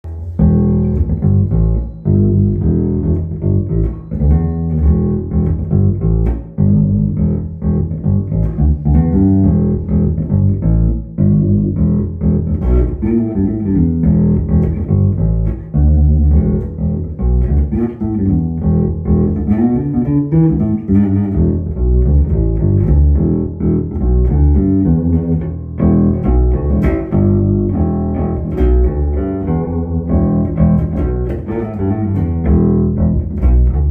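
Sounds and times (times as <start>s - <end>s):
plucked bass guitar notes: 0.0s - 33.9s.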